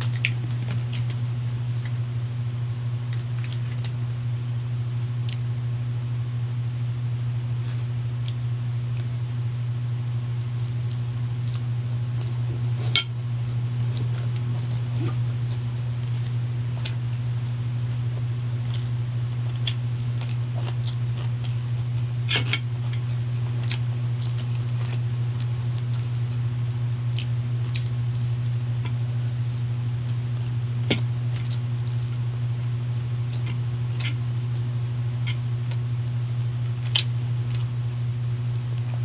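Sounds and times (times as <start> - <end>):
soft chewing: 0.0 - 2.1, 3.1 - 4.0, 7.6 - 38.0
low hum: 0.0 - 39.0.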